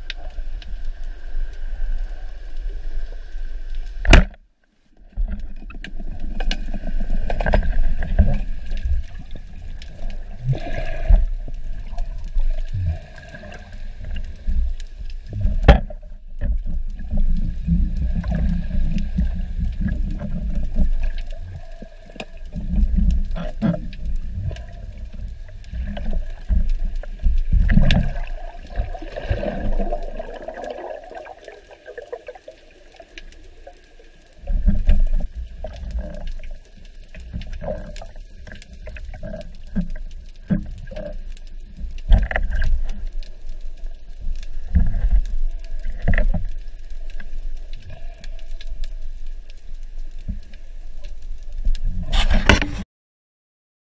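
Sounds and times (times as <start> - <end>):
underwater water swishing: 0.0 - 52.8
bubbling: 5.1 - 52.8.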